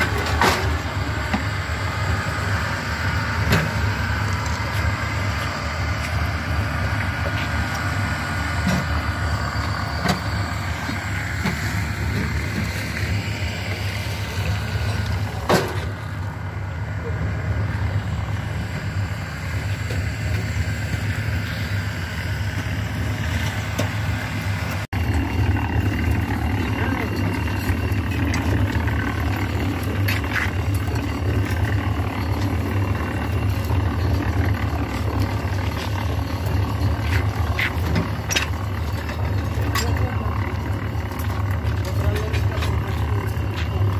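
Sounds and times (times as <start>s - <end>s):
machinery low rumble: 0.0s - 43.9s.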